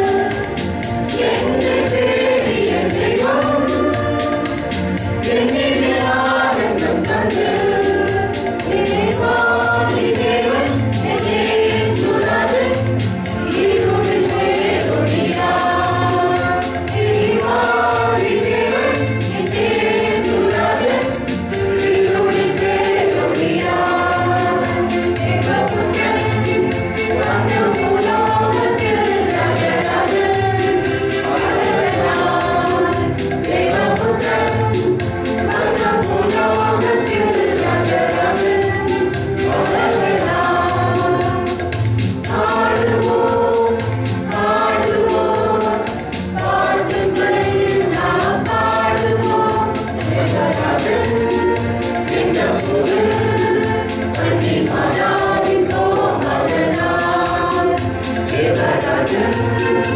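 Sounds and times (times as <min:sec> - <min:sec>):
mixed choir singing: 0:00.0 - 0:59.9
steady beat: 0:00.0 - 0:59.9.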